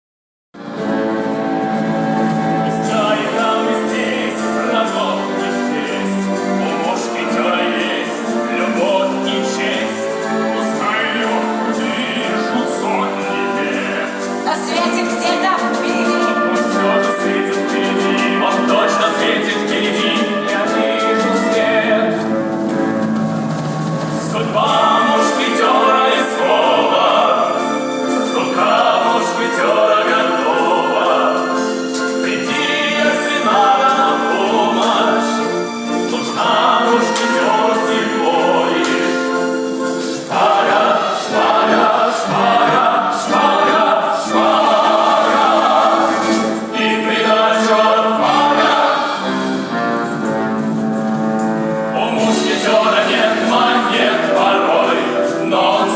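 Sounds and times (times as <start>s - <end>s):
group of voices singing: 0.6s - 55.9s.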